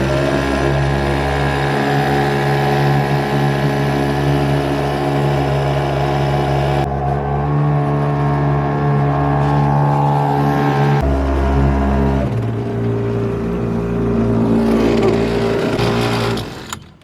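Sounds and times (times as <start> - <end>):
outboard motor running: 0.0 - 16.8.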